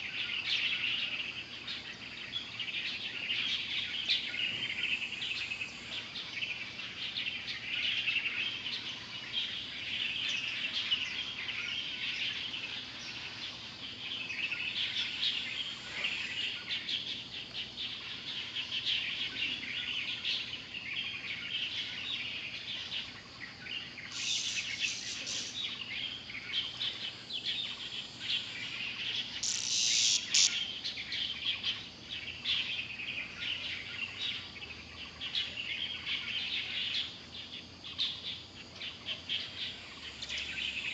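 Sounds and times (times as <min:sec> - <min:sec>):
birds chirping and twittering: 0:00.0 - 0:40.9.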